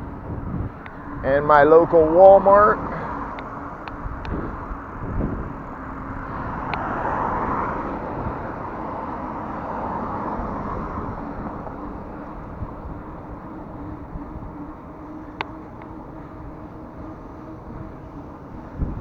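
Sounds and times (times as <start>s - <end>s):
bicycle rolling noise: 0.0s - 19.0s
passing cars rushing: 0.0s - 19.0s
wind: 0.0s - 19.0s.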